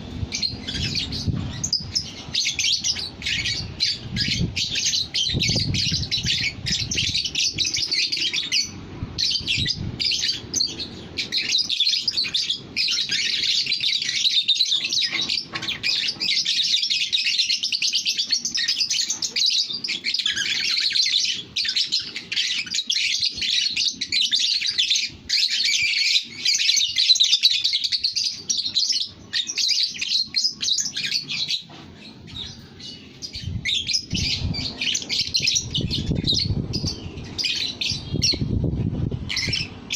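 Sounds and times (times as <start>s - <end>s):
bird rapid high chattering: 0.3s - 39.9s.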